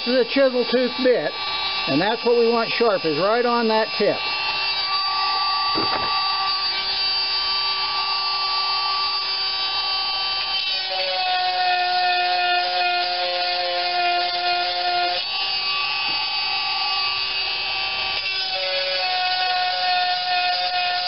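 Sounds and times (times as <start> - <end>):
chain sharpener whining: 0.0 - 21.0.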